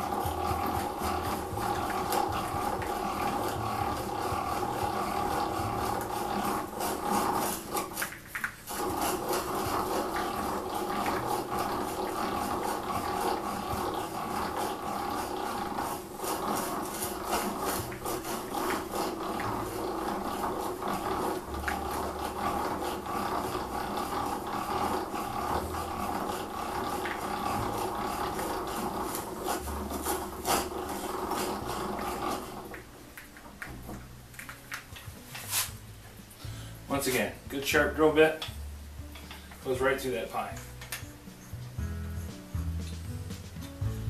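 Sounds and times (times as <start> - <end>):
hand drill gears whirring: 0.0 - 35.7.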